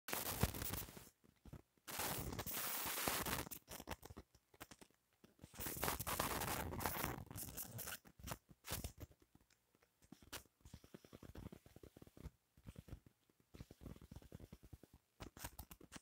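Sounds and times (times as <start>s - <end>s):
rustling scratching noise: 0.1s - 16.0s
scattered crackles: 0.1s - 16.0s.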